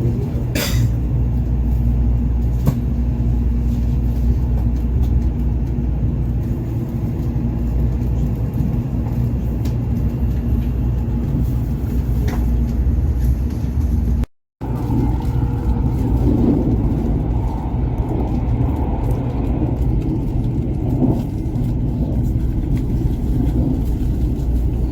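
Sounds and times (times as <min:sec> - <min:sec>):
moving vehicle rumble: 0:00.0 - 0:24.9.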